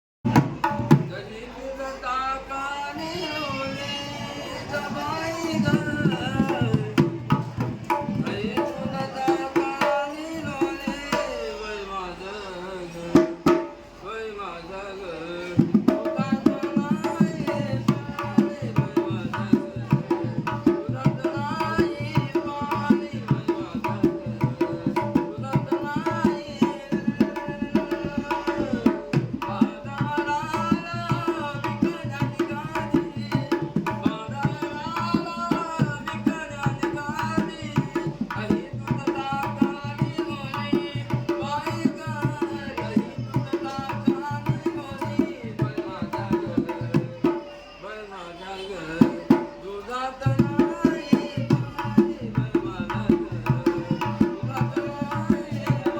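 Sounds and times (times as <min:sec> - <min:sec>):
man singing: 0:00.3 - 0:55.9.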